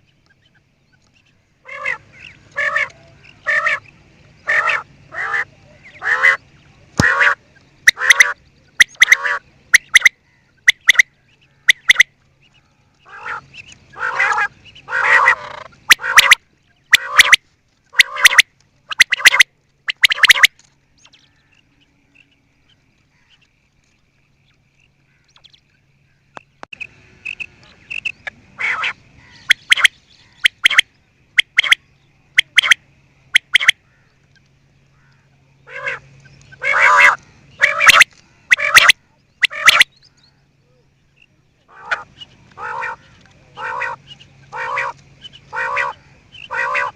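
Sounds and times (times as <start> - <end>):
quail calling: 1.2 - 6.4, 7.0 - 21.6, 26.8 - 34.2, 34.9 - 40.2, 41.6 - 46.9.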